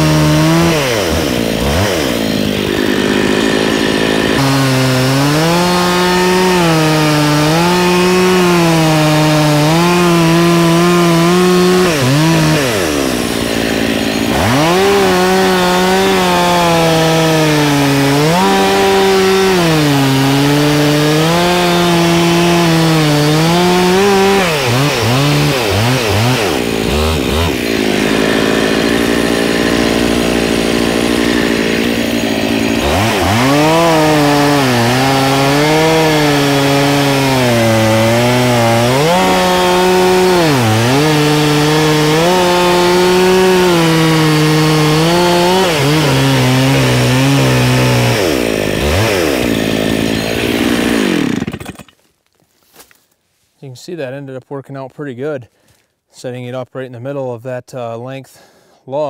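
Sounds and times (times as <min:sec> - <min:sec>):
chainsaw cutting log: 0:00.0 - 0:52.1.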